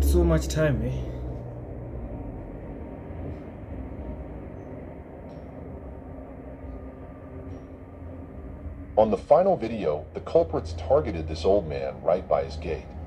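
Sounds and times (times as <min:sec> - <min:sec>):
faint hum: 0:00.0 - 0:13.0
low rumble: 0:00.0 - 0:13.0.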